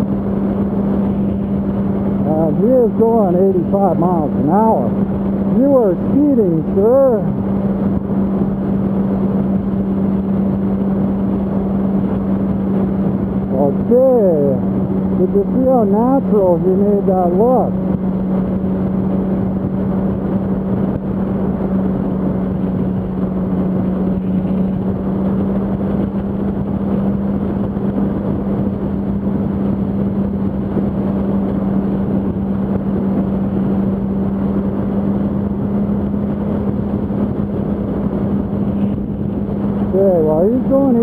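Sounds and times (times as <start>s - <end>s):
motorcycle engine cruising: 0.0s - 41.0s
wind and road noise: 0.0s - 41.0s.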